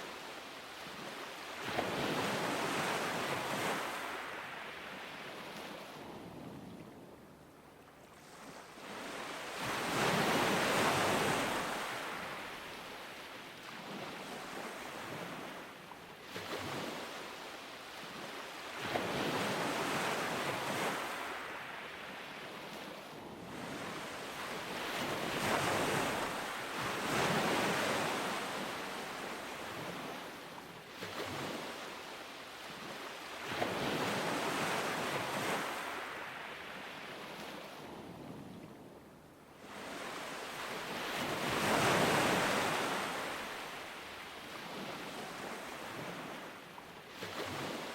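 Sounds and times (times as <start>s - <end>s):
ocean waves breaking: 0.0s - 6.4s, 8.0s - 37.8s, 39.6s - 47.9s.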